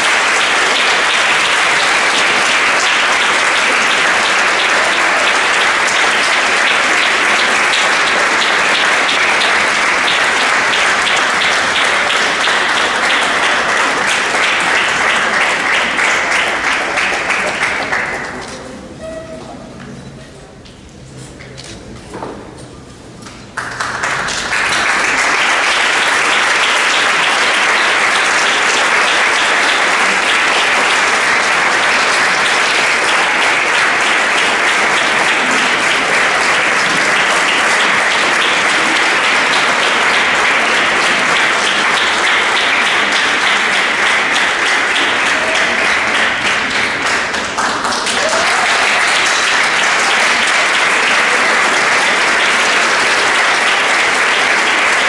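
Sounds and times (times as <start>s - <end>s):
audience applauding: 0.0s - 18.7s, 23.5s - 55.0s.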